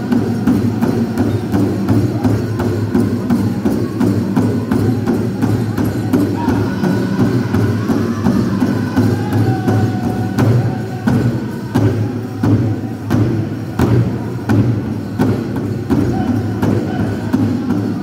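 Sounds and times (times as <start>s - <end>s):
large drum beating: 0.0s - 18.0s.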